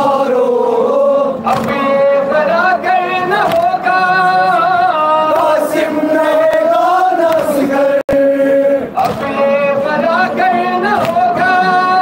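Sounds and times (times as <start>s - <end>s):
man singing a lament: 0.0s - 12.0s.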